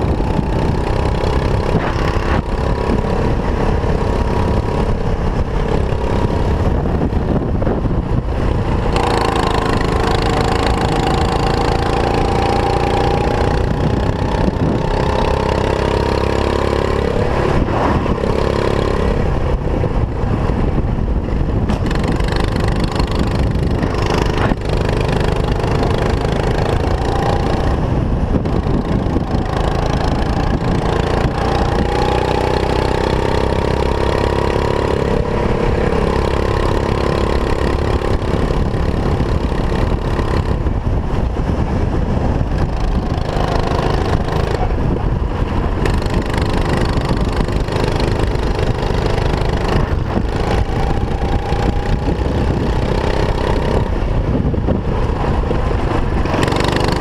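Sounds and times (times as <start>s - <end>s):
go-kart engine revving: 0.0s - 57.0s
wind rumble on microphone: 0.0s - 57.0s.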